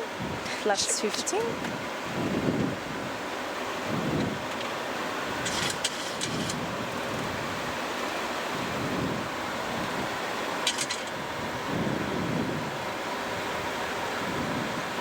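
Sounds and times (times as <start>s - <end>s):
rushing air noise in cockpit: 0.0s - 15.0s.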